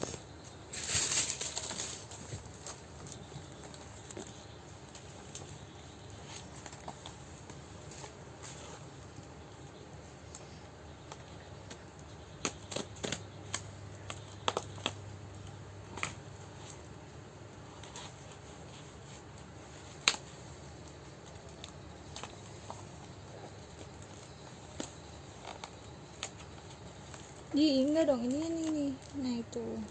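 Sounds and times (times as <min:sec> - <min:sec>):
packaging clicks and rustles: 0:00.1 - 0:29.9.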